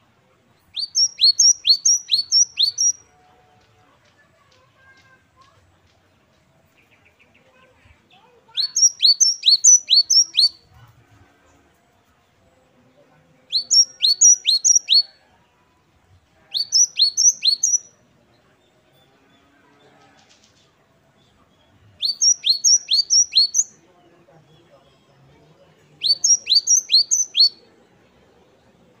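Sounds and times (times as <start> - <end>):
bird singing repeated phrases: 0.5 - 3.2, 4.1 - 10.8, 12.2 - 15.2, 16.2 - 19.6, 21.1 - 29.0.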